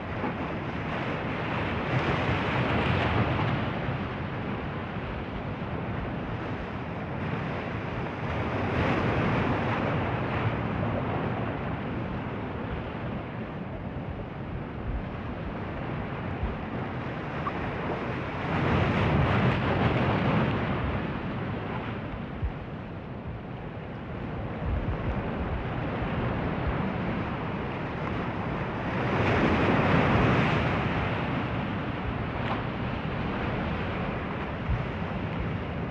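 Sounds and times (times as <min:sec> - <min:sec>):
ocean surf: 0:00.0 - 0:35.9
wind on microphone: 0:00.0 - 0:35.9.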